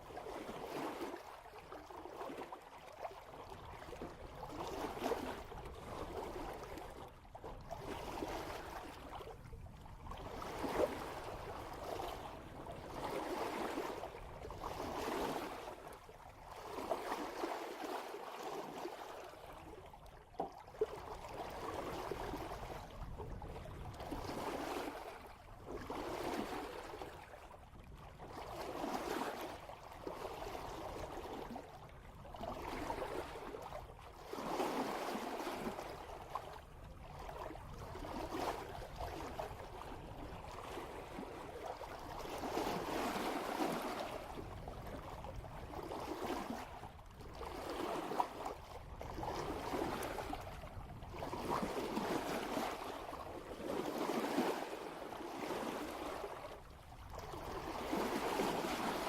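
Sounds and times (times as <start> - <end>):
water rushing at boat bow: 0.0 - 59.0.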